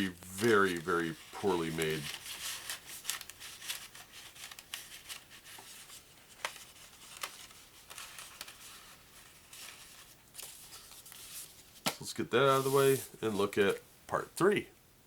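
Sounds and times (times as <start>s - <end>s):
paper rustling: 0.0s - 13.8s.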